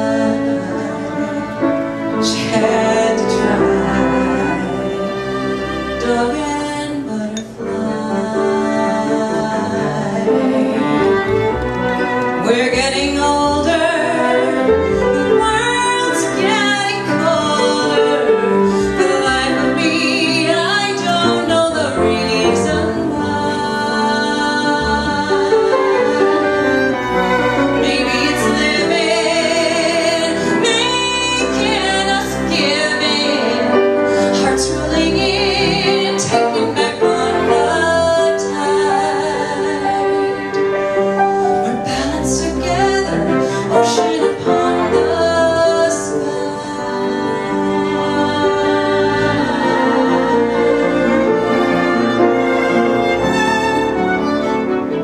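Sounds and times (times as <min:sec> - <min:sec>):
piano chords: 0:00.0 - 0:55.0
sustained cello and bass notes: 0:00.0 - 0:55.0
violin melody with vibrato: 0:00.0 - 0:55.0.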